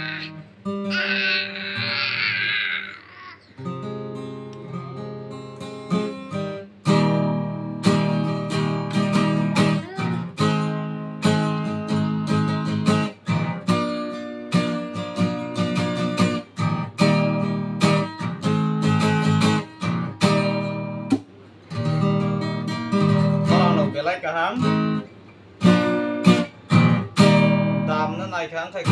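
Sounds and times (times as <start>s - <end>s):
acoustic guitar strumming: 0.0s - 2.8s, 3.6s - 28.9s.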